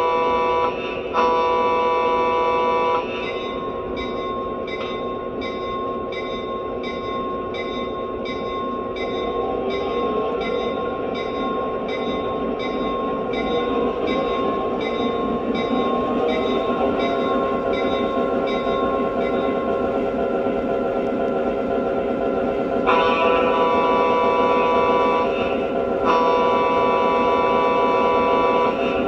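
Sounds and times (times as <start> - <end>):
locomotive bell ringing: 2.6 - 29.0.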